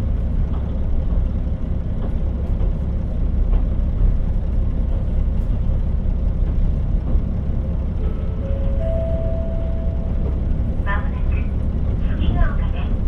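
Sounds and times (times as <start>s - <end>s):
railcar engine and wheels rumbling: 0.0s - 13.0s.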